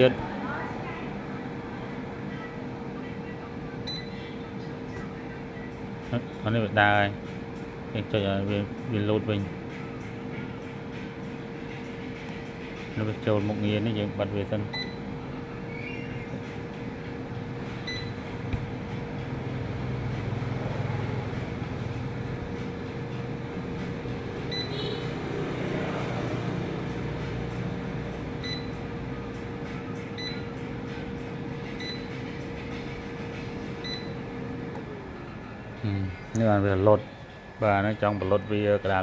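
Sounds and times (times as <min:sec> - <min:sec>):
air fryer humming: 0:00.0 - 0:39.0.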